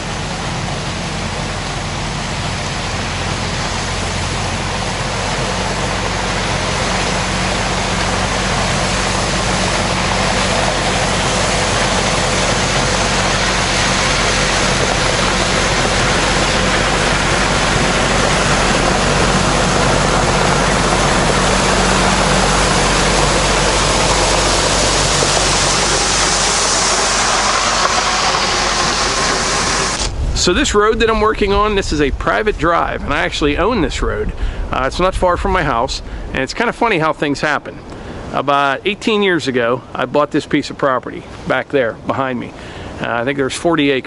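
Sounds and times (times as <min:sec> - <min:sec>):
tractor diesel engine running: 0:00.0 - 0:40.3.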